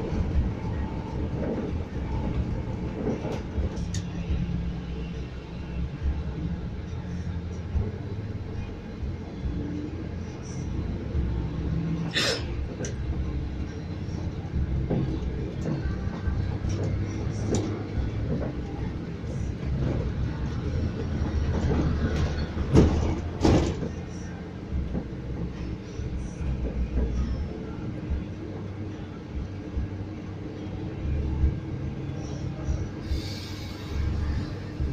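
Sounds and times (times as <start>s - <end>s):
engine and road rumble: 0.0s - 34.9s.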